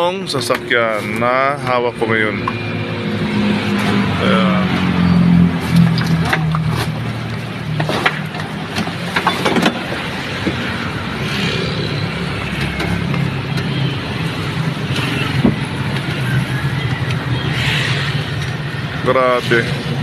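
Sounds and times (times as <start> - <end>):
truck engine running: 0.2 - 20.0.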